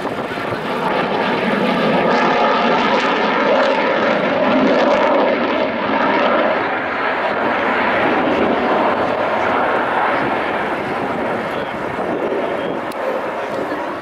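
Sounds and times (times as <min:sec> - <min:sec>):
jet engine rushing in flight: 0:00.0 - 0:14.0.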